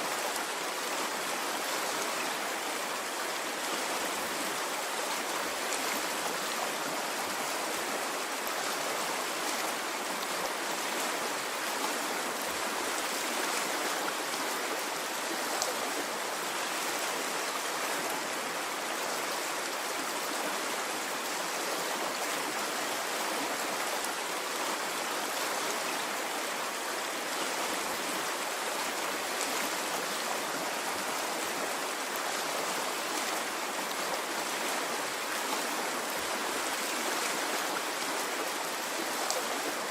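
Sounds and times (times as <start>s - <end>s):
water running in a stream: 0.0s - 39.9s.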